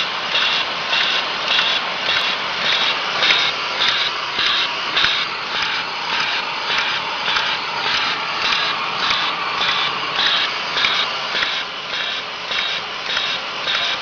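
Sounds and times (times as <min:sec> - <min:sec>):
machine hissing rhythmically: 0:00.0 - 0:14.0.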